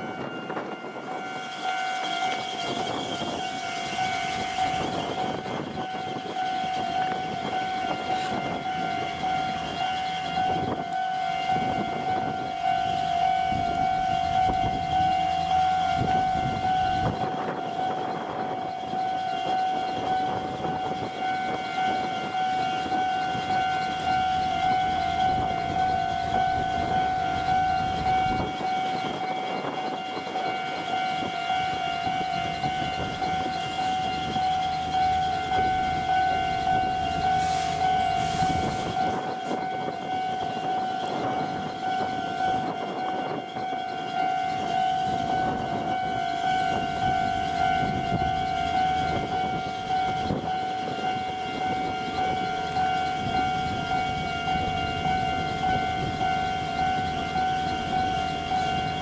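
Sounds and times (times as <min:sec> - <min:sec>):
level crossing warning bells: 0:00.0 - 0:59.0
train rumble and wheel clatter: 0:00.0 - 0:59.0.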